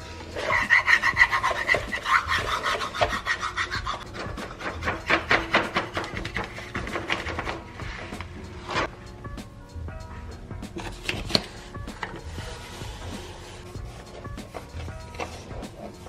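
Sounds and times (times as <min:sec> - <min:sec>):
plastic card scraping wallpaper: 0:00.4 - 0:08.9, 0:10.8 - 0:16.0.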